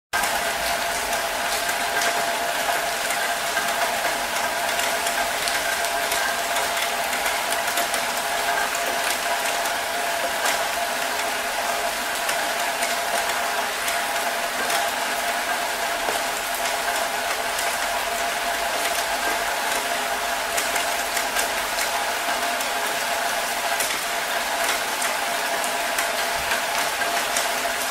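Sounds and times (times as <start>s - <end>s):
steady rain falling: 0.2s - 27.9s.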